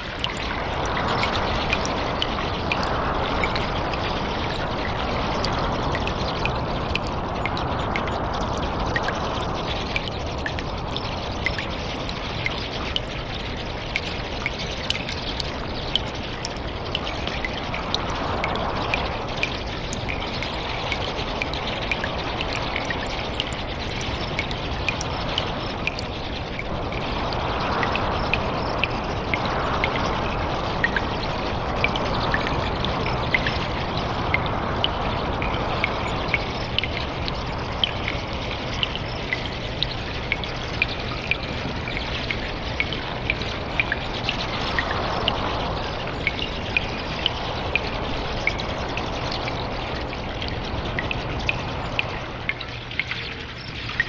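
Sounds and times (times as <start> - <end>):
water drips: 0.0 - 54.0
water rushing: 0.0 - 54.0
water trickling in a cave: 0.0 - 54.0.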